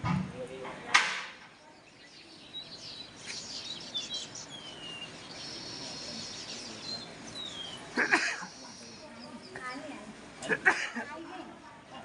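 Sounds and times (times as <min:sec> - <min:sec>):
birds chirping and calling: 0:00.8 - 0:11.2.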